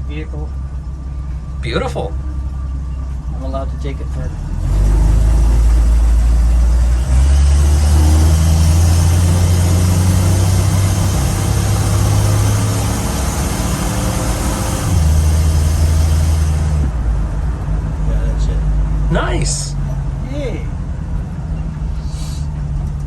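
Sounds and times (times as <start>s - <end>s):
jeep engine running: 0.0s - 23.0s.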